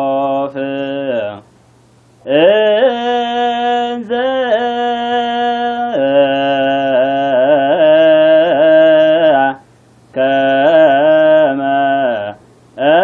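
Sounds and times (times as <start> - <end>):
man chanting: 0.0 - 1.4, 2.2 - 9.6, 10.2 - 13.0.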